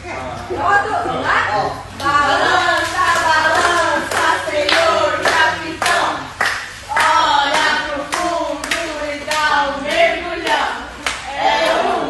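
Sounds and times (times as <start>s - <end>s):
voices singing: 0.6s - 12.0s
rhythmic hand clapping: 2.0s - 12.0s.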